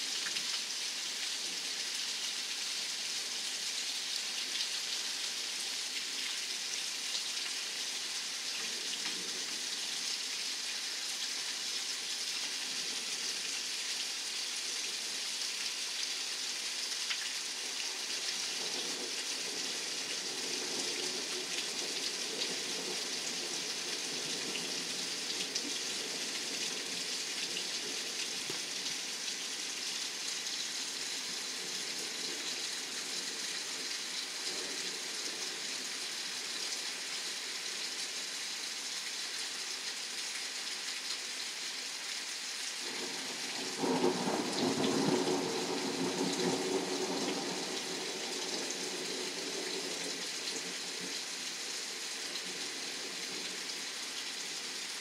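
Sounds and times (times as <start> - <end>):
heavy rain on pavement: 0.0 - 55.0.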